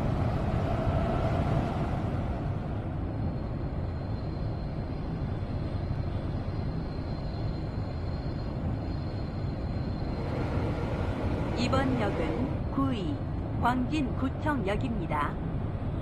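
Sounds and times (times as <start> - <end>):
faint high steady tone: 0.0 - 16.0
wheels rumbling on rails: 0.0 - 16.0.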